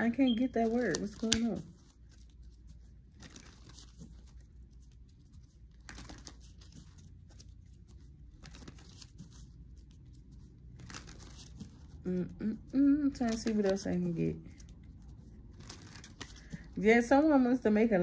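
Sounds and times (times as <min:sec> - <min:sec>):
low room hum: 0:00.0 - 0:18.0
cards rustling and clicking: 0:00.2 - 0:17.4.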